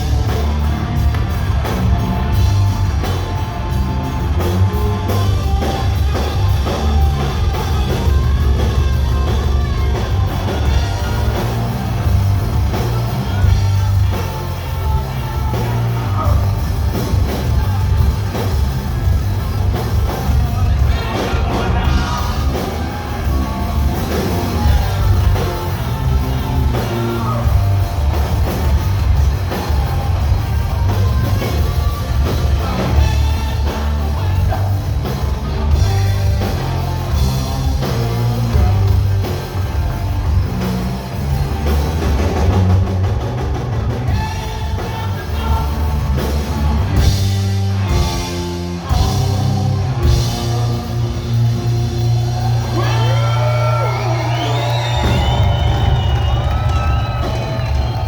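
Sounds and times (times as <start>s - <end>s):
heavy bass: 0.0s - 58.0s
rock band playing loudly: 0.0s - 58.0s.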